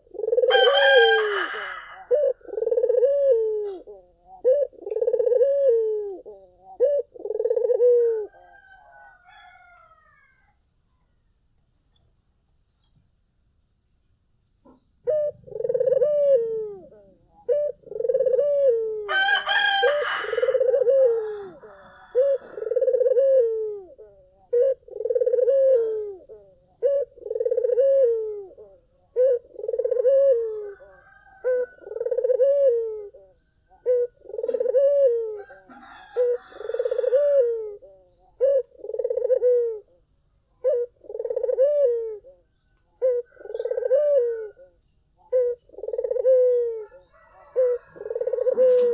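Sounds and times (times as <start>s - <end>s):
dove cooing: 0.0s - 10.5s, 14.6s - 48.9s.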